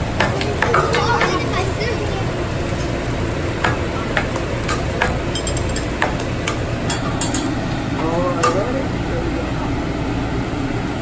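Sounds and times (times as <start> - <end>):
fried rice sizzling: 0.0 - 10.6.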